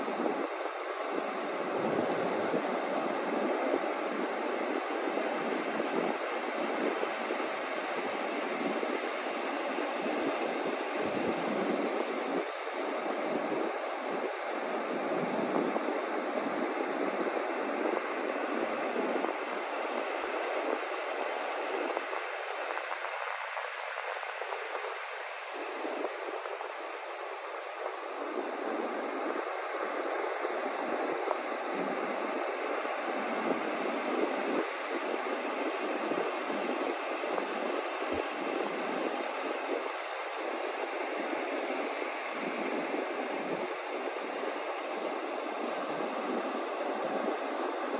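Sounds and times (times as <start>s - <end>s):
ocean surf breaking on beach: 0.0s - 47.9s.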